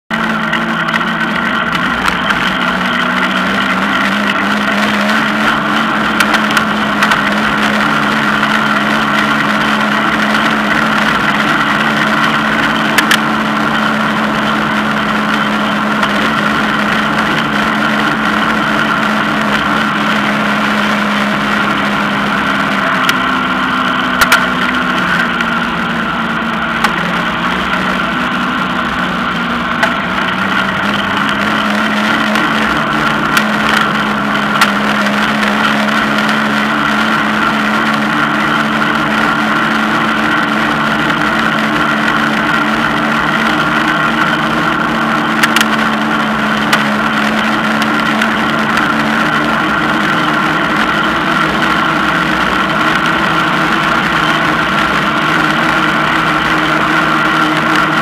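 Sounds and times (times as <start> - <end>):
vehicle engine drone: 0.0 - 58.0.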